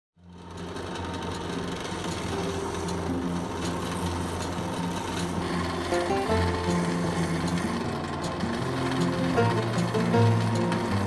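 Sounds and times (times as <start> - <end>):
belt sander running: 0.3 - 11.0.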